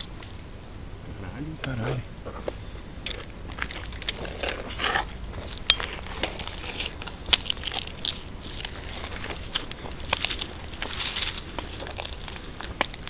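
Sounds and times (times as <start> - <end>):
crunching and rustling: 1.4 - 13.0.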